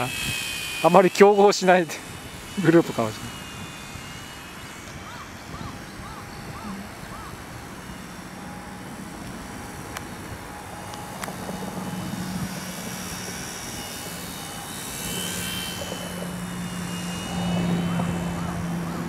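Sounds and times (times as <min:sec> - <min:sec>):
model airplane motor droning: 0:00.0 - 0:19.0.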